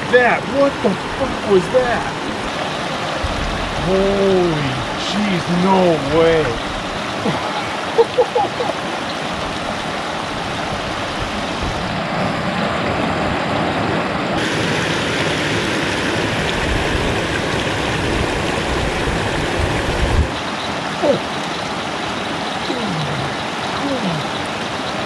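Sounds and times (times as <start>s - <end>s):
water rushing over dam: 0.0s - 25.0s.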